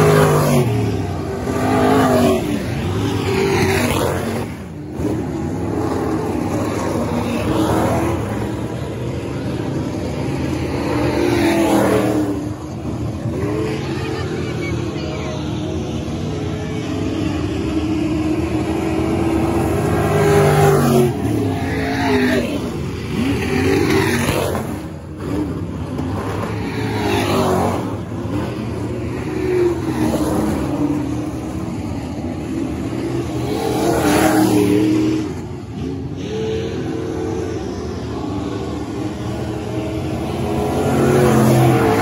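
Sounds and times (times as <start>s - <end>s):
race car engines revving: 0.0s - 42.0s.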